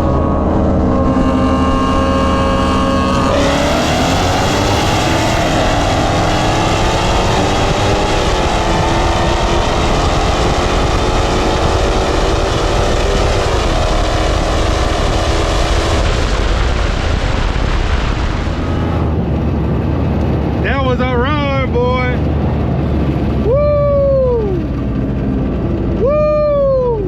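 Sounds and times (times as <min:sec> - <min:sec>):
car engine at full throttle: 0:00.0 - 0:27.0.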